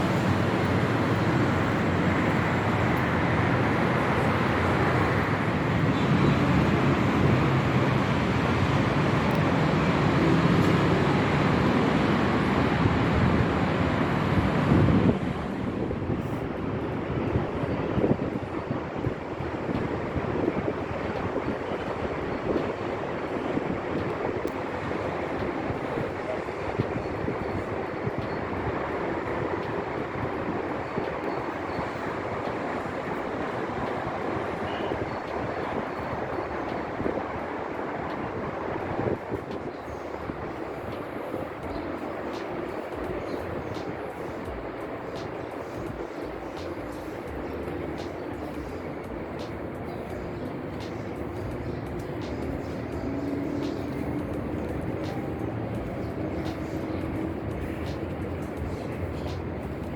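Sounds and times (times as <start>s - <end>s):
highway traffic: 0.0s - 59.9s
wind: 0.0s - 59.9s.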